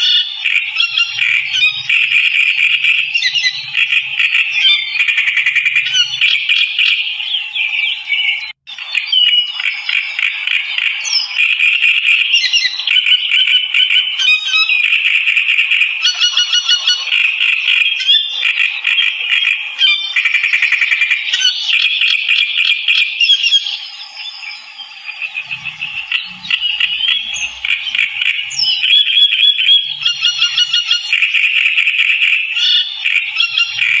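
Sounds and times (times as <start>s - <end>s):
songbird singing trills: 0.0s - 14.9s, 16.0s - 31.2s, 32.5s - 34.0s.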